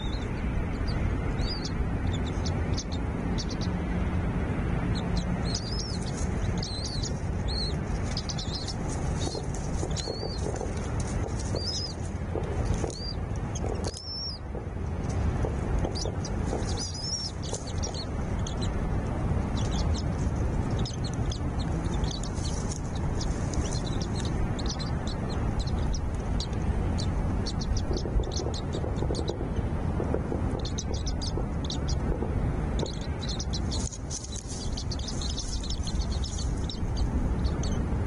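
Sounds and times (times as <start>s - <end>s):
small birds chirping: 0.0s - 38.0s
steady low rumble: 0.0s - 38.0s.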